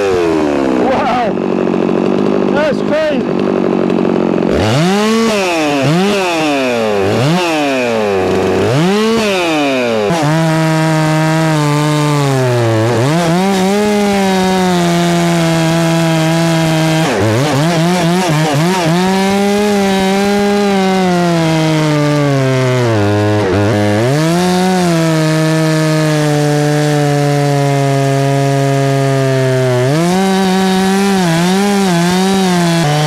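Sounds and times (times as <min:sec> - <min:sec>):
chainsaw revving and cutting wood: 0:00.0 - 0:33.0.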